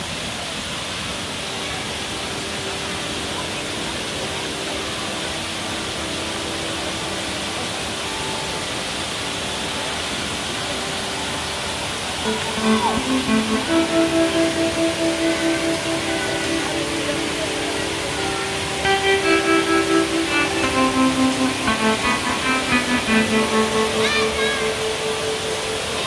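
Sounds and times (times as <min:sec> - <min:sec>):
waterfall pouring into pool: 0:00.0 - 0:26.0.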